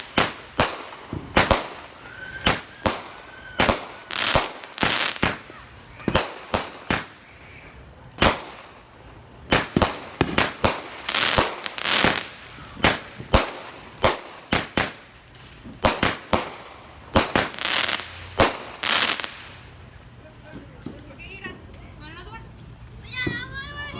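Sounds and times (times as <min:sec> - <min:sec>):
firework bangs: 0:00.0 - 0:21.1
firework crackling: 0:00.0 - 0:22.1.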